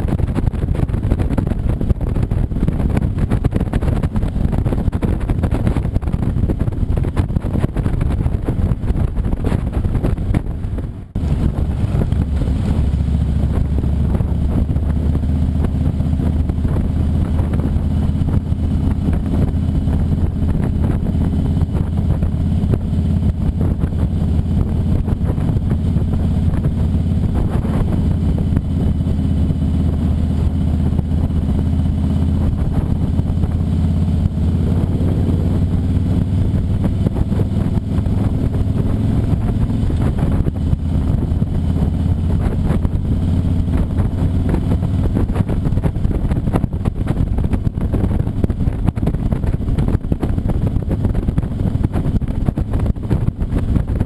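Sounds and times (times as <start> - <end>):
motorcycle engine drone: 0.0 - 54.0
road noise: 0.0 - 54.0.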